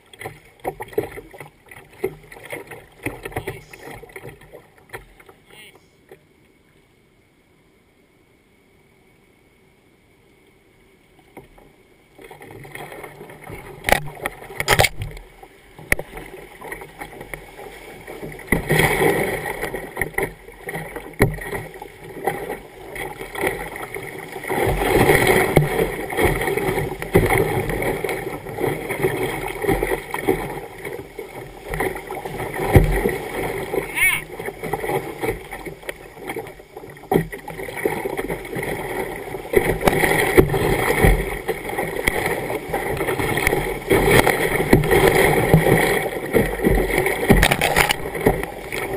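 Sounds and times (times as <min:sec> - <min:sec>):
water rushing against kayak: 0:00.0 - 0:07.9, 0:08.5 - 0:48.9.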